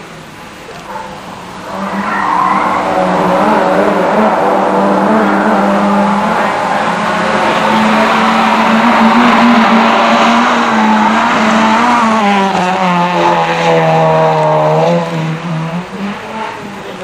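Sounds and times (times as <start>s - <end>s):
rally car engine approaching: 0.0s - 17.0s.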